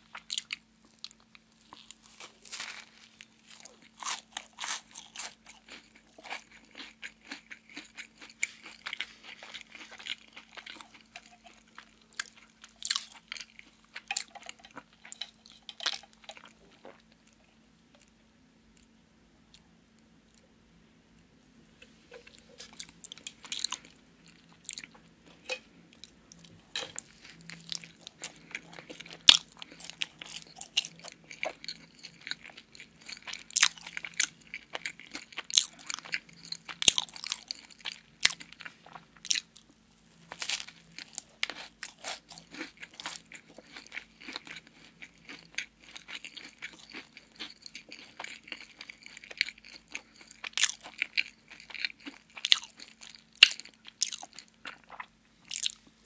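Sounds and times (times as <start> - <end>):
cookie crunching: 0.1 - 17.4, 21.8 - 56.0.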